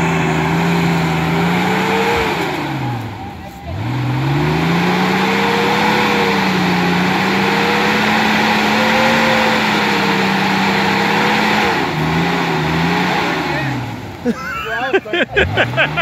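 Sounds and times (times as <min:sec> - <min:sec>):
pickup engine revving hard: 0:00.0 - 0:14.4, 0:15.4 - 0:16.0.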